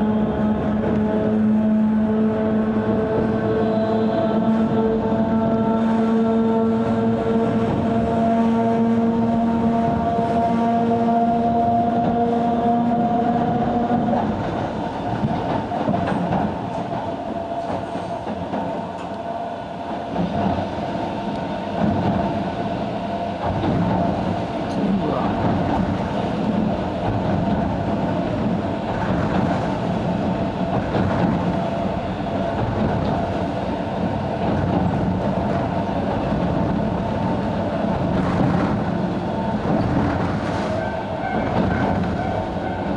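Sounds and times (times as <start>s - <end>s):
electric train whine: 0.0s - 42.9s
train wheels rumbling on track: 0.0s - 42.9s.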